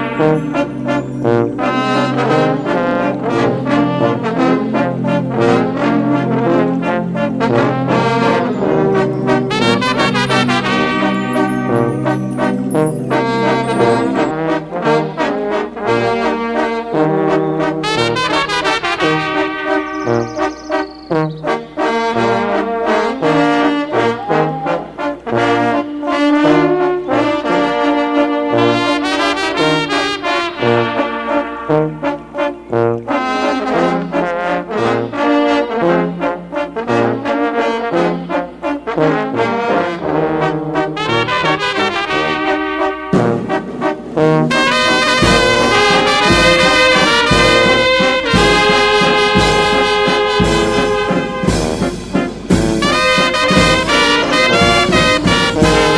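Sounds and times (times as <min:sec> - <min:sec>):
brass melody: 0:00.0 - 0:55.9.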